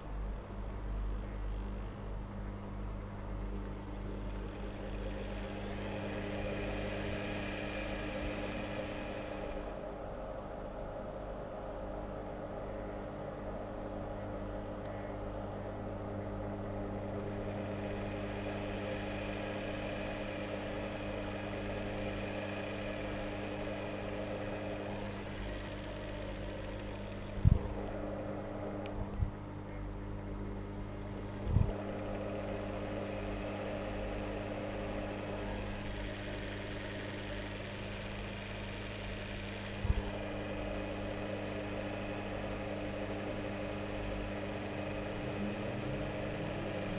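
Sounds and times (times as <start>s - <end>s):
washing machine motor humming: 0.0s - 10.5s, 15.7s - 46.9s.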